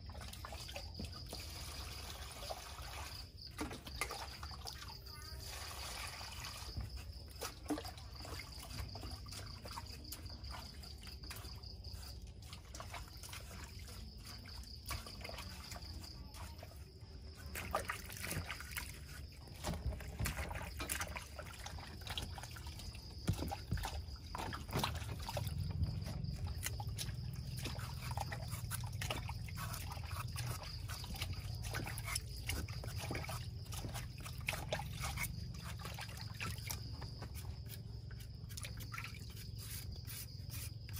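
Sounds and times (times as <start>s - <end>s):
water splashing in a basin: 0.0s - 40.9s.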